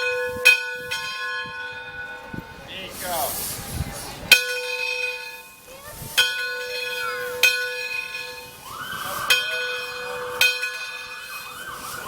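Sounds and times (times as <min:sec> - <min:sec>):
locomotive bell ringing: 0:00.0 - 0:12.0.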